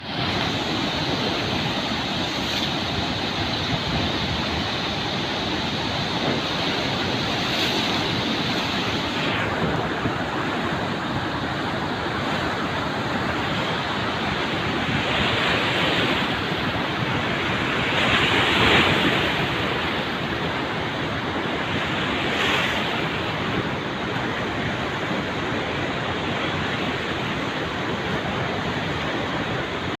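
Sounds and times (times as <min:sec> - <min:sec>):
fast-flowing river water rushing: 0:00.0 - 0:30.0.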